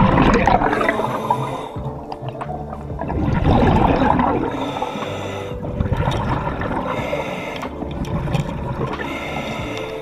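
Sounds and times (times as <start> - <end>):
underwater bubbling and rushing water: 0.0 - 10.0.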